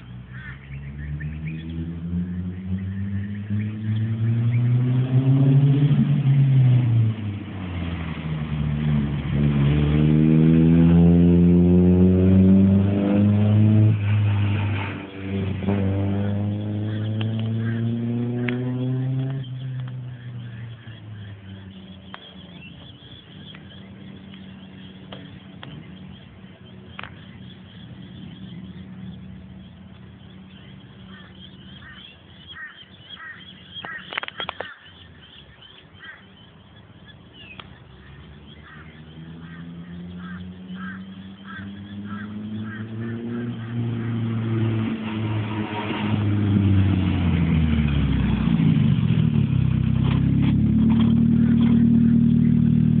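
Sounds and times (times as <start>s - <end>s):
birds chirping: 0.0s - 53.0s
car engine revving: 0.0s - 53.0s.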